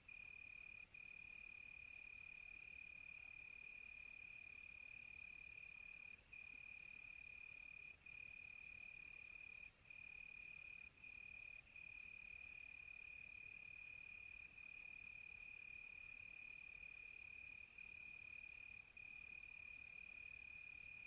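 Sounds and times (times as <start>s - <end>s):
faint hiss of insects: 0.0s - 21.0s.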